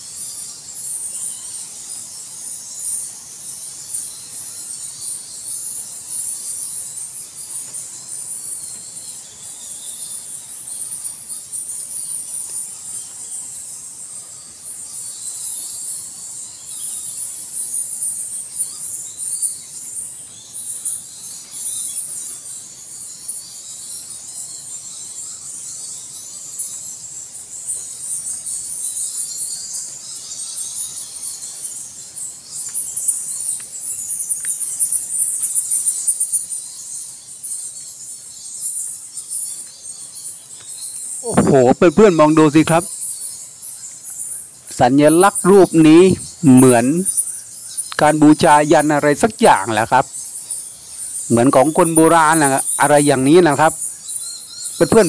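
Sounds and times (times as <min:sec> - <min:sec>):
bats squeaking and chittering: 0:00.0 - 0:55.0.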